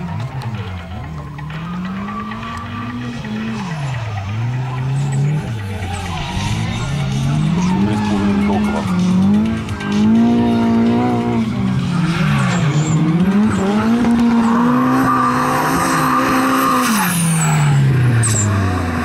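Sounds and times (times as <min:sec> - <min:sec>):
car engines revving high: 0:00.0 - 0:19.0.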